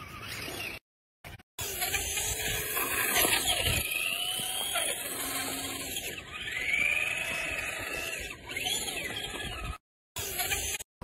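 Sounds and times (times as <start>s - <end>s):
electric motor whining: 1.6s - 10.8s.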